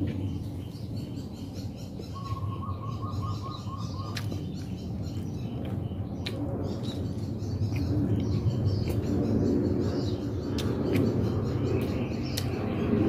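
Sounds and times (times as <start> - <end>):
low background rumble: 0.0 - 13.0
small birds chirping: 0.0 - 13.0.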